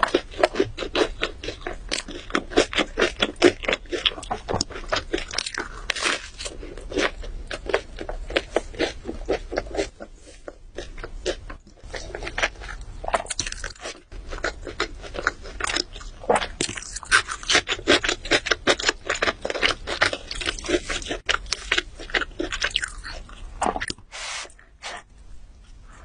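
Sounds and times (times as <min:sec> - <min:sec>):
person chewing crunchy food: 0:00.0 - 0:25.2.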